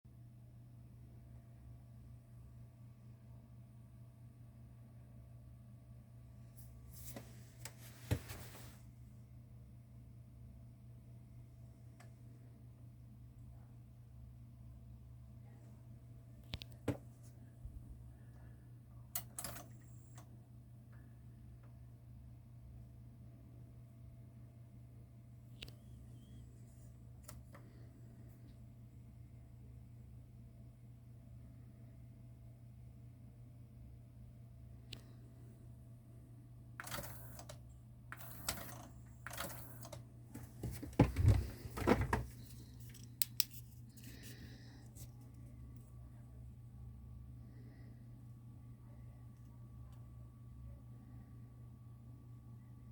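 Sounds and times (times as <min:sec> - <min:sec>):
low steady hum: 0:00.1 - 0:52.9.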